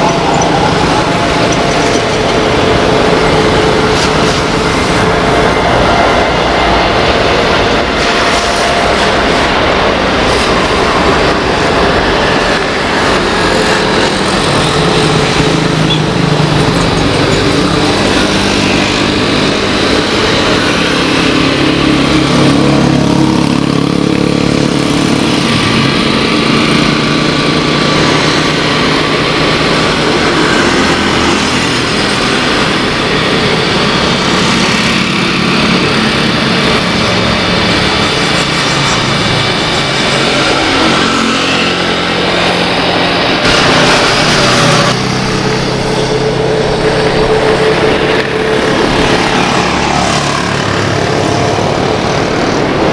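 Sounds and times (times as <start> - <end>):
jet engines on approach: 0.0 - 52.9
jet engines roaring at takeoff: 0.0 - 52.9.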